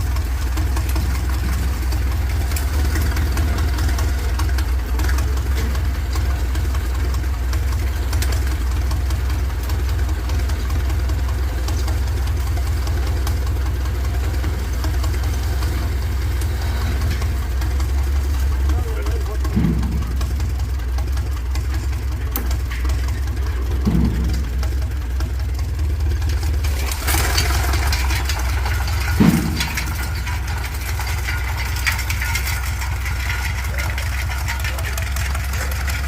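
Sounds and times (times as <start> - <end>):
engine idling: 0.0 - 36.0
fast even engine ticking: 0.0 - 36.0.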